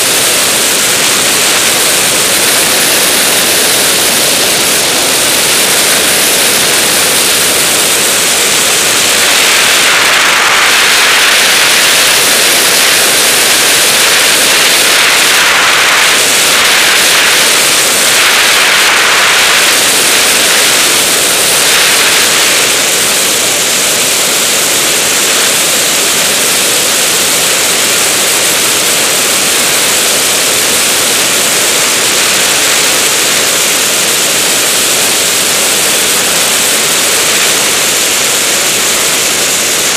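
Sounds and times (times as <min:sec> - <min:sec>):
rushing wind noise: 0:00.0 - 0:39.9.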